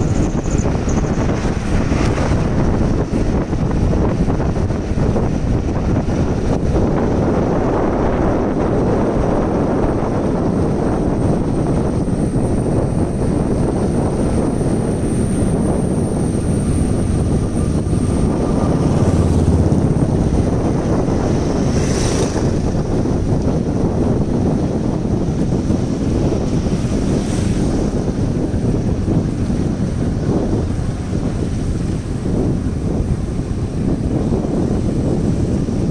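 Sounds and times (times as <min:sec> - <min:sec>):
motorbike engine and road noise: 0:00.0 - 0:35.9
passing motorcycle rumble: 0:00.0 - 0:35.9
wind rushing over microphone: 0:00.0 - 0:35.9.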